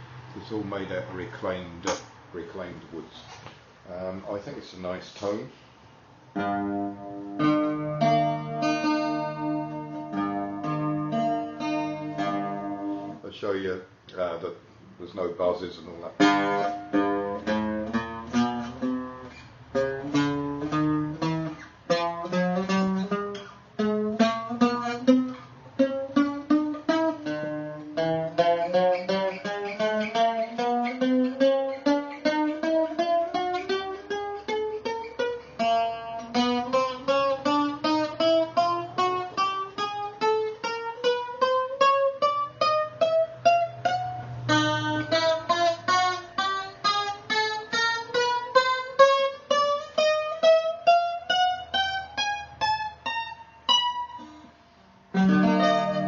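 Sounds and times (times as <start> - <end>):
bouzouki notes picked: 6.2 - 13.2, 15.4 - 56.0
bouzouki chord strummed: 6.3 - 13.2, 15.4 - 56.0.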